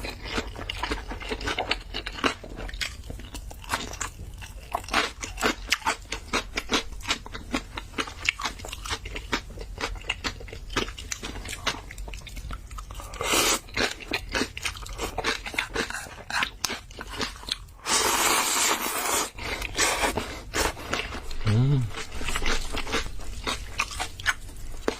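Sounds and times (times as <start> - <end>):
wet chewing and crunching: 0.0 - 24.9.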